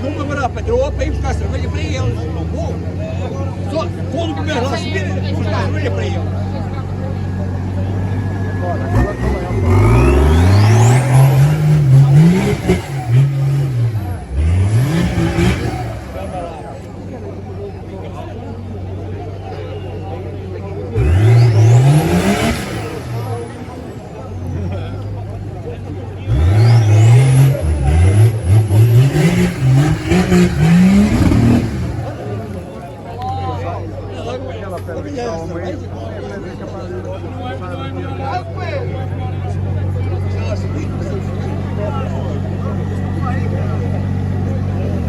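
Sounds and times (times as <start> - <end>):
vehicle engine revving: 0.0 - 45.0.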